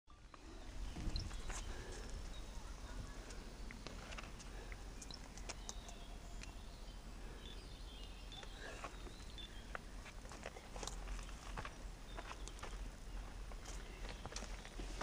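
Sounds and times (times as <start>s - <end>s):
faint bird chirps: 0.1s - 14.9s.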